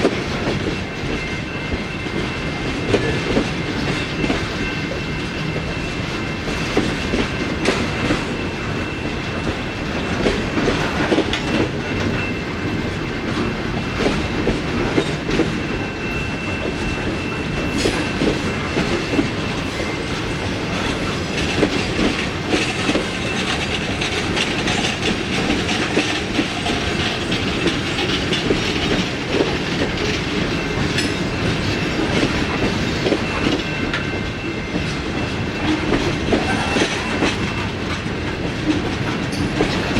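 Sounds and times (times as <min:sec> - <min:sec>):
clickety-clack of wheels: 0:00.0 - 0:39.9
railroad cars rumbling: 0:00.0 - 0:39.9.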